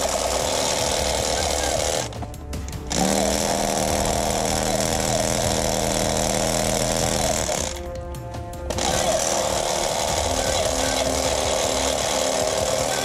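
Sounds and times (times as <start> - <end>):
toy gun motor whirring and rattling: 0.0 - 2.2, 2.8 - 7.9, 8.7 - 13.0.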